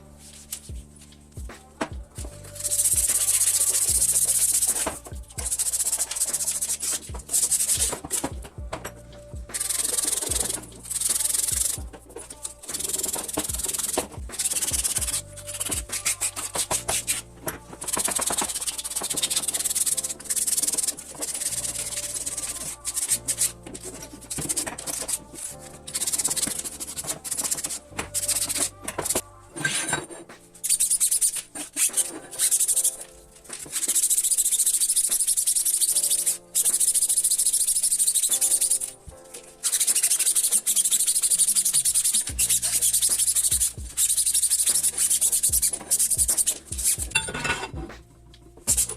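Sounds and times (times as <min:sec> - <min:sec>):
abrasive hand rubbing on metal: 0:02.4 - 0:39.0, 0:39.6 - 0:48.0.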